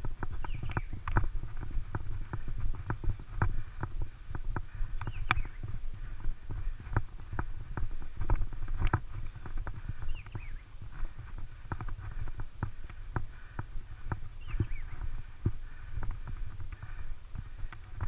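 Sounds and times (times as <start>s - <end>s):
horse hooves clopping on dirt: 0.0s - 18.0s.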